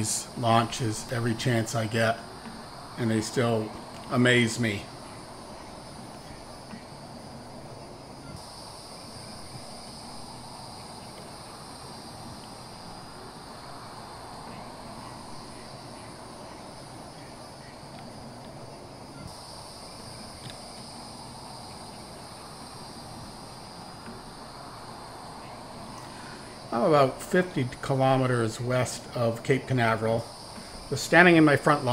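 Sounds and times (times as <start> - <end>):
low outdoor hiss: 0.0 - 31.9
night insects trilling: 0.0 - 31.9.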